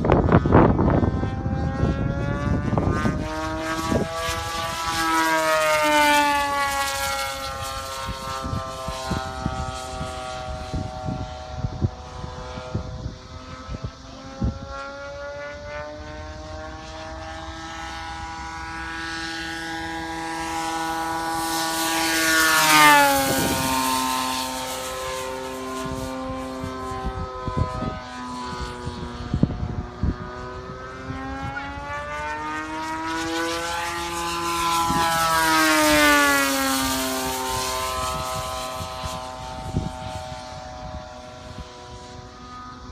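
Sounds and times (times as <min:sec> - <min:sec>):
model plane engine passing: 0:00.0 - 0:42.9.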